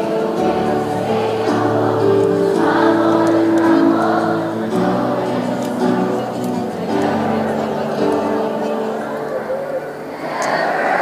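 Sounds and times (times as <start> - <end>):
group singing in chorus: 0.0 - 11.0.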